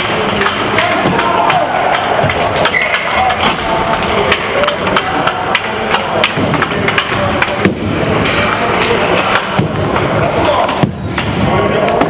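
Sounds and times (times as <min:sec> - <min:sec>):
background chatter: 0:00.0 - 0:12.0
hockey sticks and puck clacking: 0:00.0 - 0:12.0.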